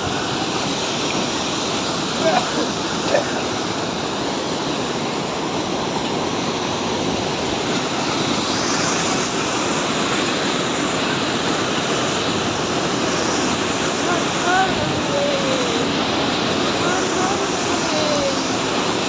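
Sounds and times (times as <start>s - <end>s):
fast-flowing mountain water: 0.0s - 19.0s.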